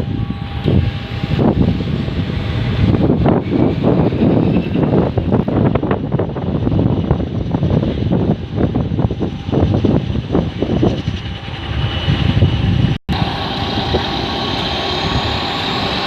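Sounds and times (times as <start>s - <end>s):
aircraft engines running: 0.0s - 16.0s
wind buffeting microphone: 0.0s - 16.0s.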